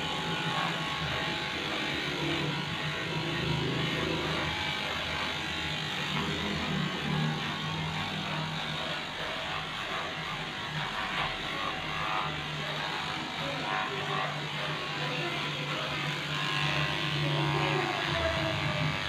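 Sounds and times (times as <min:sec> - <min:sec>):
electric clipper running: 0:00.0 - 0:19.0.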